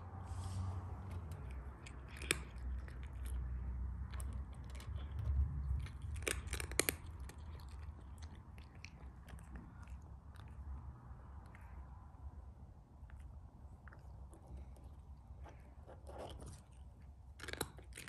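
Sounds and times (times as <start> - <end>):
cat crunching dry kibble: 0.8 - 11.9, 12.8 - 18.0.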